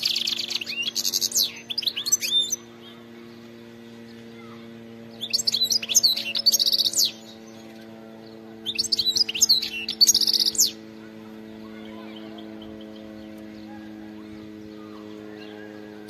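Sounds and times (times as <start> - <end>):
finch twittering and trilling: 0.0 - 16.0
steady low hum: 0.0 - 16.0.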